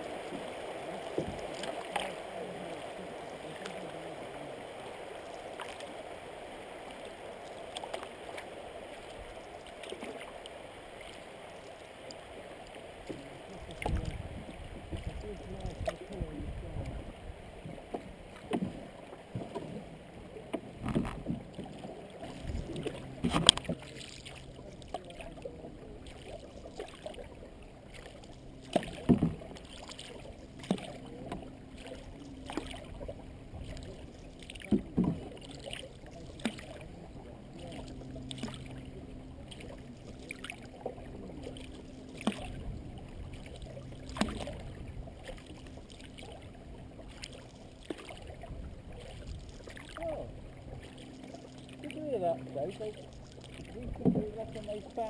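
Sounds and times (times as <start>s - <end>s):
canoe paddles splashing: 0.0s - 55.0s.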